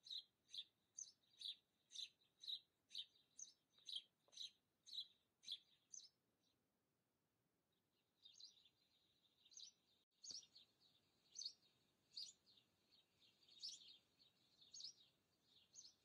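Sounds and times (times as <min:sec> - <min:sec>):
faint small bird chirping: 0:00.0 - 0:06.6, 0:08.0 - 0:16.0.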